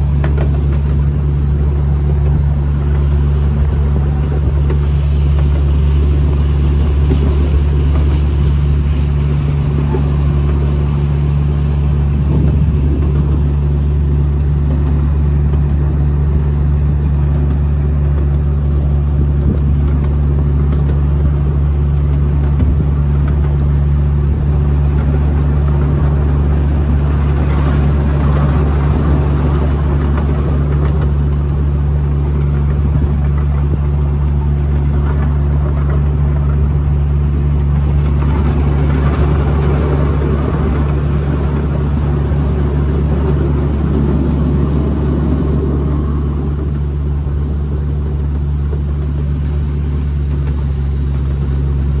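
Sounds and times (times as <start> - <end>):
low engine drone: 0.0 - 52.0
vehicle rumbling over gravel: 0.0 - 52.0.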